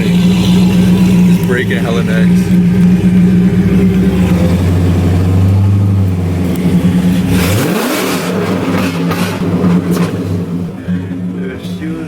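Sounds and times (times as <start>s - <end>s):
loud car engine droning and revving: 0.0s - 12.0s.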